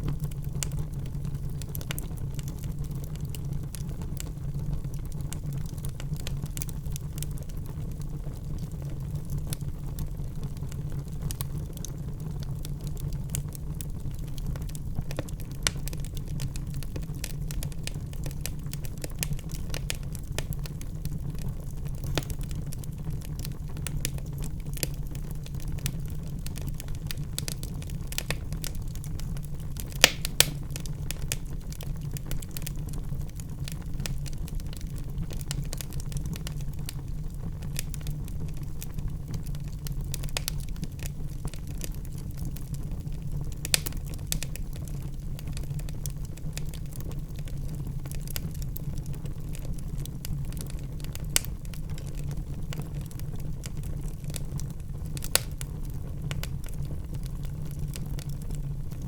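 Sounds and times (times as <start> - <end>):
low rumble of burning logs: 0.0 - 59.0
wood fire crackling and popping: 0.0 - 59.0.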